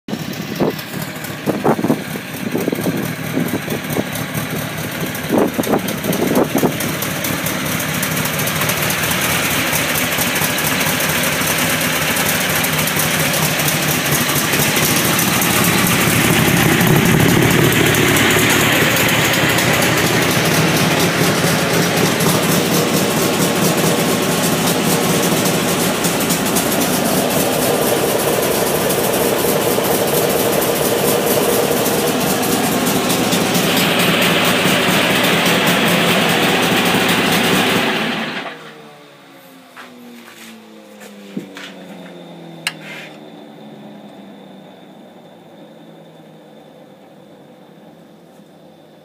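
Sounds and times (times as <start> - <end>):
loud engine bursts: 0.1 - 39.5
car engine idling: 0.1 - 49.0.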